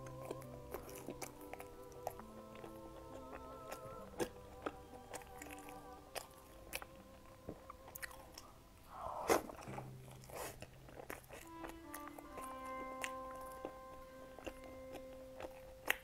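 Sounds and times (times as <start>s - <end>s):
chewing: 0.0s - 16.0s
quiet background music: 0.0s - 16.0s.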